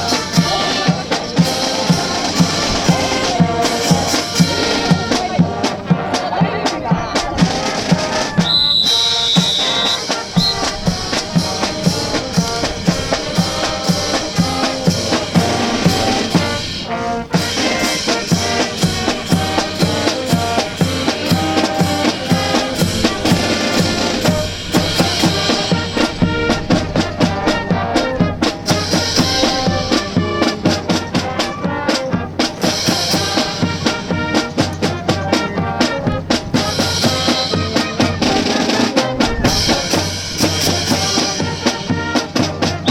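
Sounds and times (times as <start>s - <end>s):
brass band music: 0.0s - 42.9s
marching drums: 0.0s - 42.9s.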